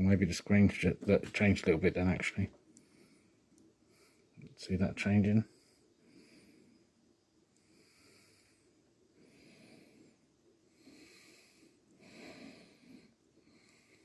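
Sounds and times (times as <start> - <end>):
faint soft breaths: 0.0 - 14.0.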